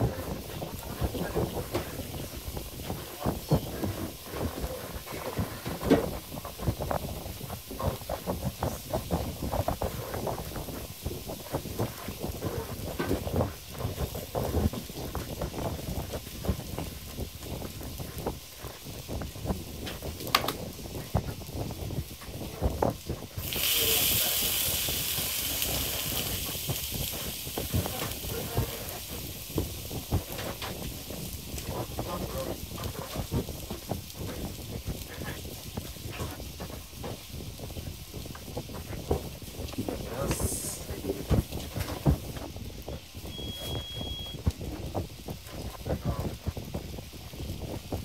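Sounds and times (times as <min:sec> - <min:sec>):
low background rumble: 0:00.0 - 0:46.5
loud sizzling hiss: 0:00.0 - 0:48.0.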